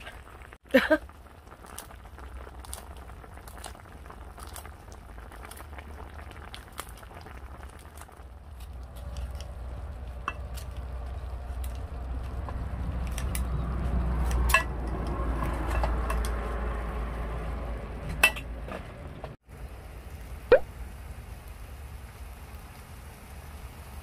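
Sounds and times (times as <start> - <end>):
stew simmering and bubbling: 0.0 - 24.0.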